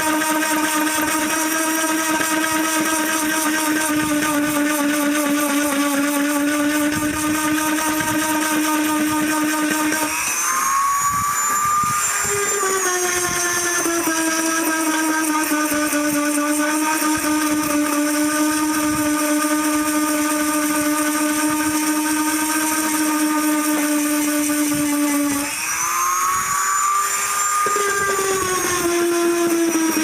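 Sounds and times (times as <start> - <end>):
electric sander whining: 0.0 - 30.0
scratchy sanding abrasion: 0.0 - 30.0.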